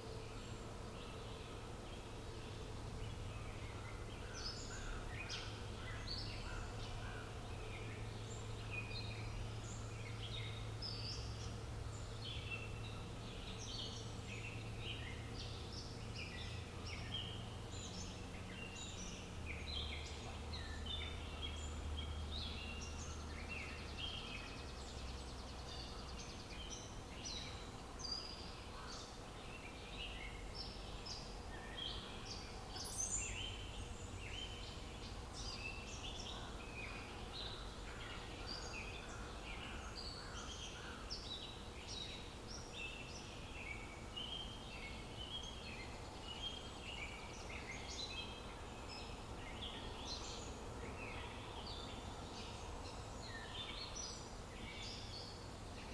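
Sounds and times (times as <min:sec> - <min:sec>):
songbirds chirping and singing: 0:00.0 - 0:55.9.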